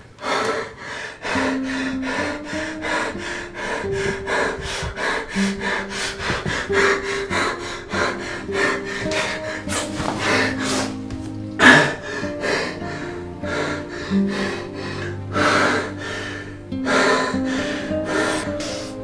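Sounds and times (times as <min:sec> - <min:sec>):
rasping heavy breathing: 0:00.2 - 0:19.0
tense film score: 0:01.1 - 0:19.0.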